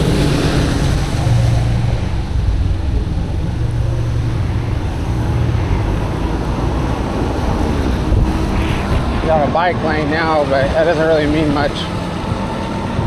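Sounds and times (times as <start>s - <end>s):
road traffic: 0.0s - 13.0s
wind rumble: 0.0s - 13.0s.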